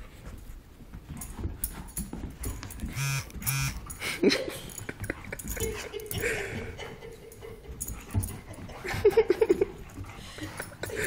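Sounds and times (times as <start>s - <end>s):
dogs scuffling and scrabbling: 0.0s - 11.0s.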